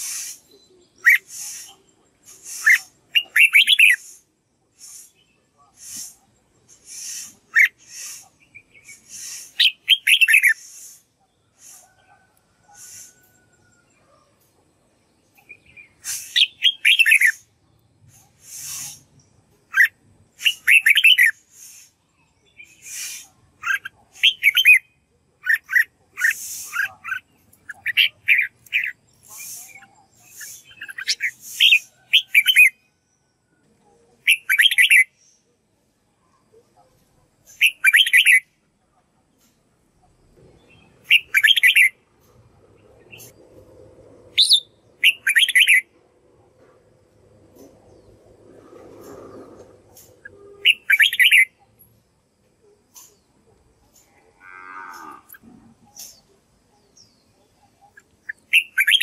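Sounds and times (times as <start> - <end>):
bird singing warbled phrases: 0.0 - 13.2, 14.7 - 32.9, 34.1 - 35.5, 36.2 - 38.6, 40.4 - 43.5, 44.3 - 46.0, 47.6 - 51.8, 52.6 - 59.0.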